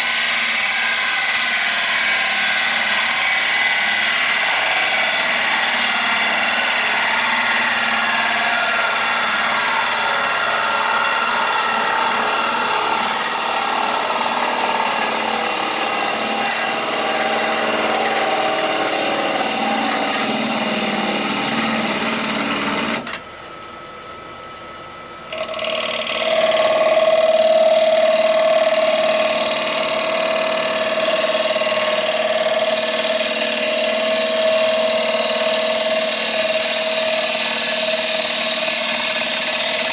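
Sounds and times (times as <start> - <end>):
wood lathe running: 0.0 - 23.2, 25.3 - 39.9.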